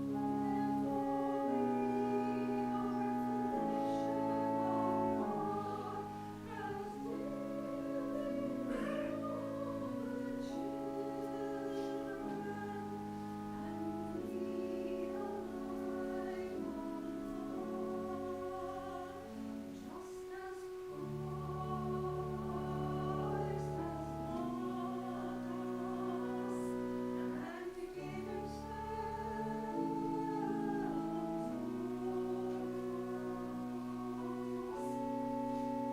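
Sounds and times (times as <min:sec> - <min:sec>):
choir singing slow chords: 0:00.0 - 0:35.9
instrumental accompaniment: 0:00.0 - 0:35.9.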